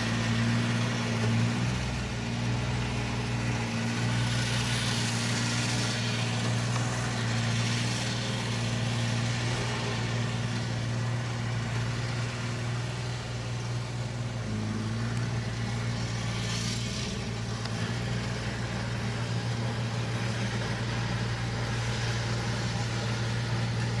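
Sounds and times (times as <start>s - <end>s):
machine engine droning: 0.0s - 24.0s.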